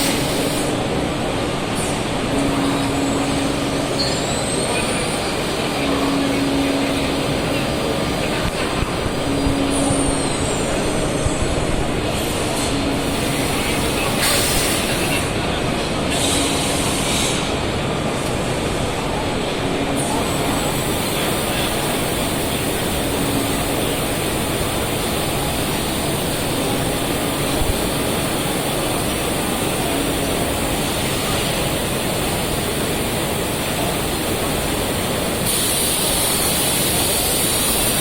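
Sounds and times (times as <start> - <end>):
pulsing machine hum: 0.0 - 35.4
high machine whines: 0.0 - 38.0.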